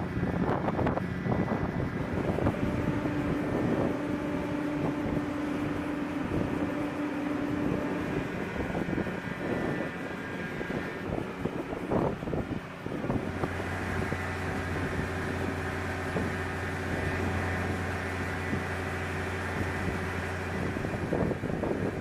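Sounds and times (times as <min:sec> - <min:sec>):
aircraft engines rumbling: 0:00.0 - 0:22.0
steady hum: 0:00.0 - 0:22.0.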